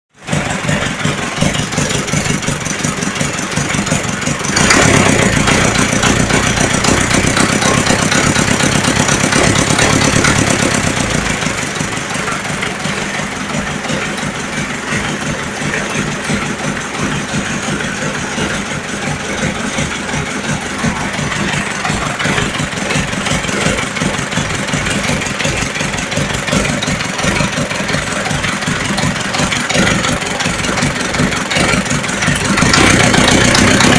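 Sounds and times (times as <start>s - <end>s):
engine idling and revving: 0.2s - 33.9s.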